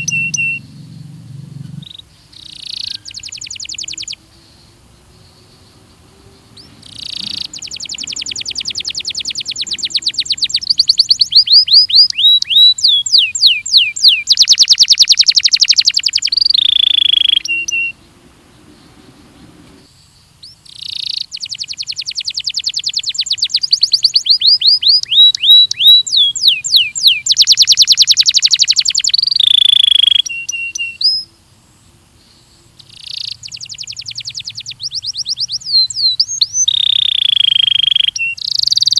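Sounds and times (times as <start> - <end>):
canary singing trills and whistles: 0.0 - 19.2, 19.8 - 31.3, 32.3 - 38.9.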